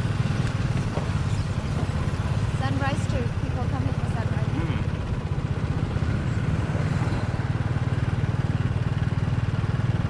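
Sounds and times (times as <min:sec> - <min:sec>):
motorbike engine running: 0:00.0 - 0:10.0
wind and road noise: 0:00.0 - 0:10.0.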